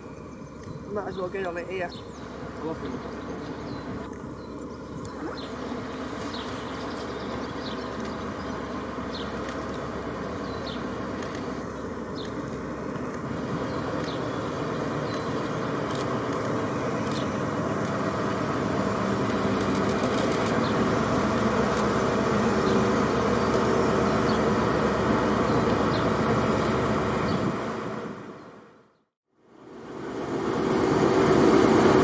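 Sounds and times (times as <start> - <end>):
diesel locomotive engine running: 0.0 - 32.0.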